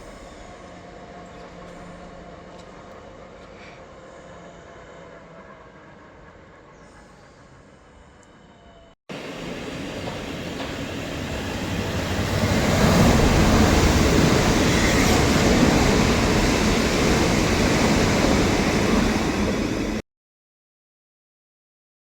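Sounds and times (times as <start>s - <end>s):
train running past: 0.0s - 20.0s.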